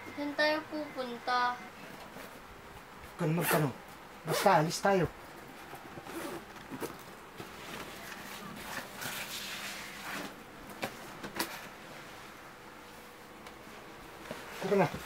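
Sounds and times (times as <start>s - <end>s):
rustling and handling noises: 1.8s - 15.0s.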